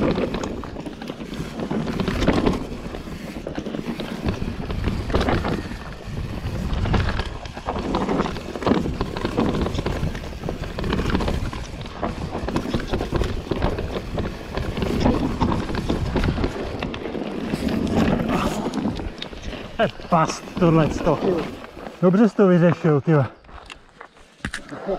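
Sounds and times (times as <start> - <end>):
wind on microphone: 0.0 - 22.0
mountain bike rattling over rough ground: 0.0 - 24.9.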